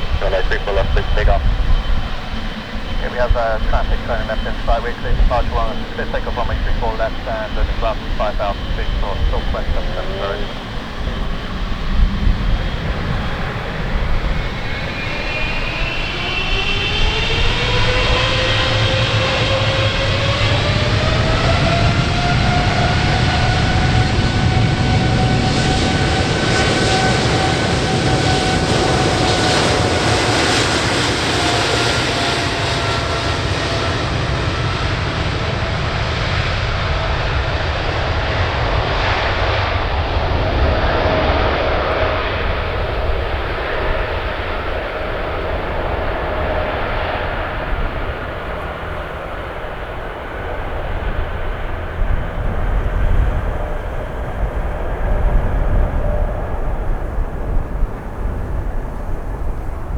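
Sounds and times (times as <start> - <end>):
jet engine whine: 0.0 - 59.9
loud deep jet rumble: 0.0 - 59.9.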